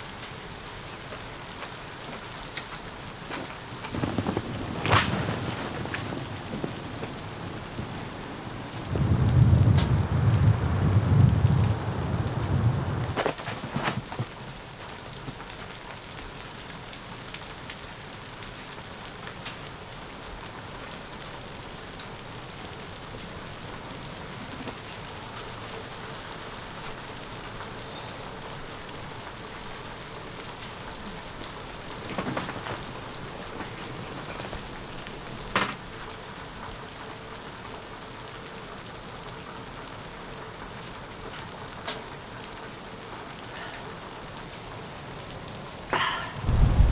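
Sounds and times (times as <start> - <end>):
rain hissing on tent fabric: 0.0 - 46.9.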